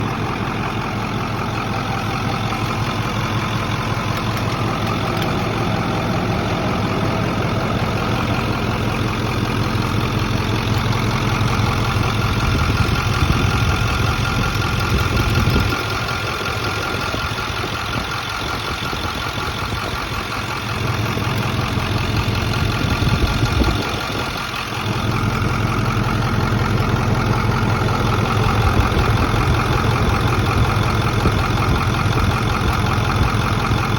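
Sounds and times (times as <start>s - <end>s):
truck engine idling: 0.0s - 33.9s
intermittent clicking: 1.9s - 6.4s, 8.0s - 33.9s.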